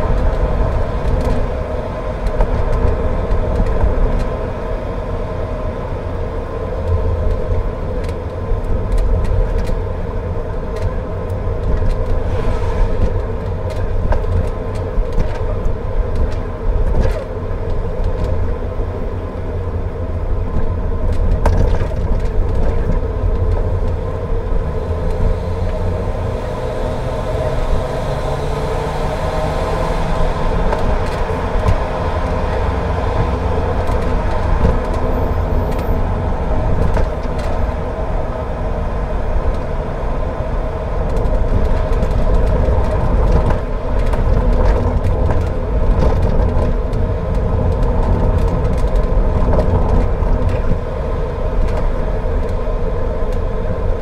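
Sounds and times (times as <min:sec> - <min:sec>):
engine and tyres rumbling on wet road: 0:00.0 - 0:54.0.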